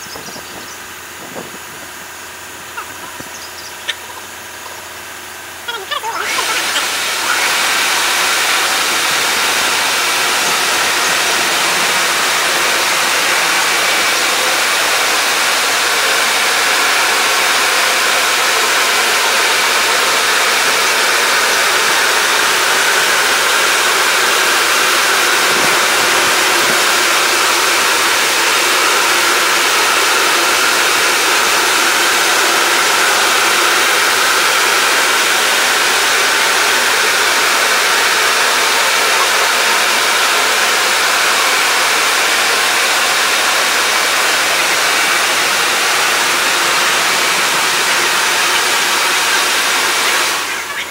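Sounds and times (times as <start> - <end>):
car wash blowers rushing air: 0.0 - 50.9.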